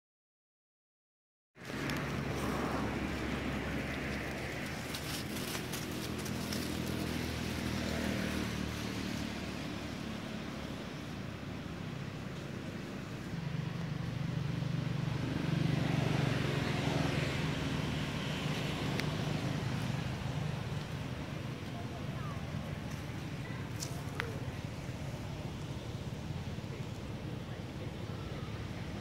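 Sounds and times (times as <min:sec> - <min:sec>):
vehicle engine humming: 0:01.6 - 0:29.0.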